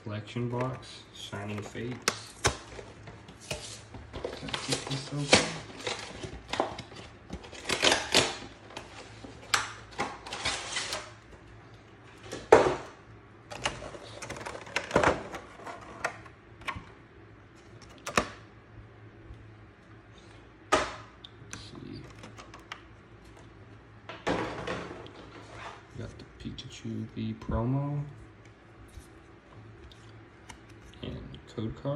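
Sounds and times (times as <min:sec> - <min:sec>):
faint low hum: 0:00.0 - 0:31.9.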